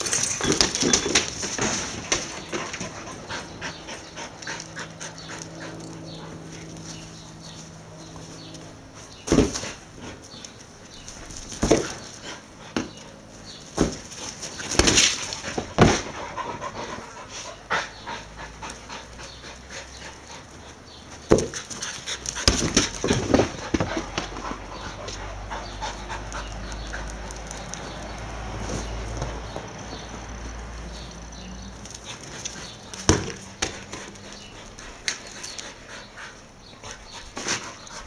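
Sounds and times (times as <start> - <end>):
dogs panting: 0.0 - 38.0.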